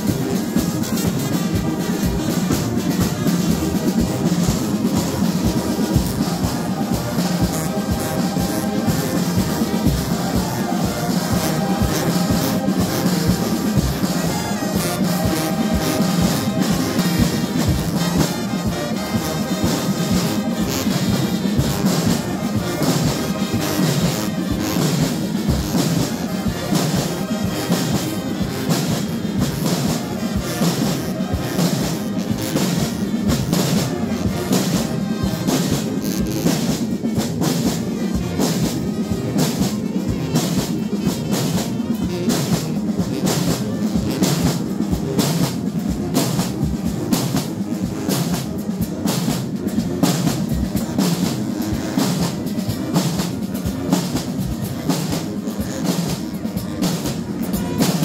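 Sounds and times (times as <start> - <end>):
steady percussion: 0.0 - 58.0
trumpets and trombones playing: 0.0 - 58.0.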